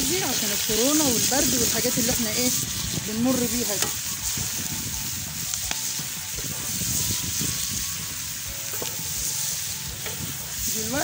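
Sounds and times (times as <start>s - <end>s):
meat and onion sizzling in oil: 0.0s - 11.0s.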